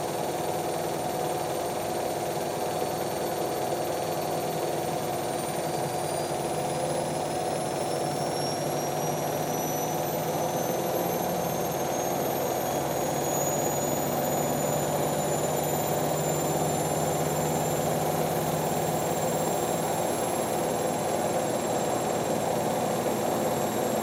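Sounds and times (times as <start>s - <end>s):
washing machines spinning: 0.2s - 24.0s.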